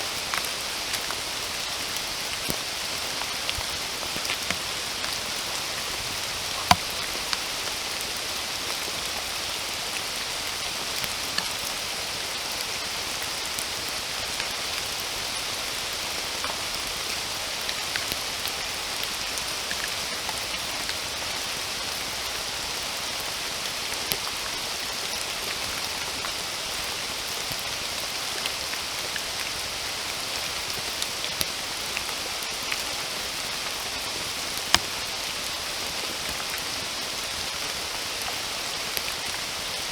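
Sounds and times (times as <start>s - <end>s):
raindrops striking close by: 0.0s - 39.9s
steady rain in forest: 0.0s - 39.9s.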